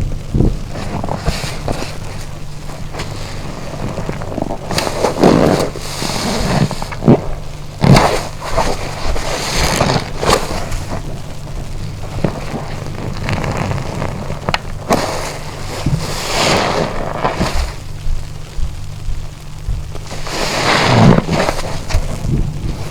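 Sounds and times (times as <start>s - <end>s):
steady low hum: 0.0s - 22.9s
wet sponge squelching: 0.3s - 18.0s, 20.0s - 22.9s.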